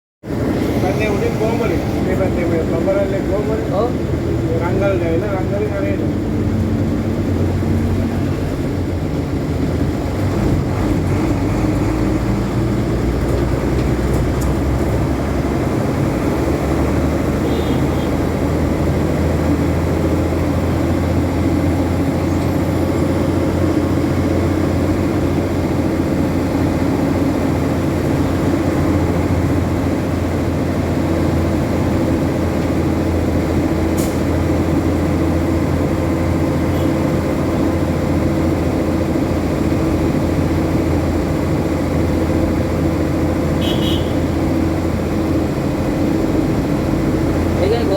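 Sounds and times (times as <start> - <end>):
road noise: 0.2 - 47.9
vehicle engine droning: 0.2 - 47.9.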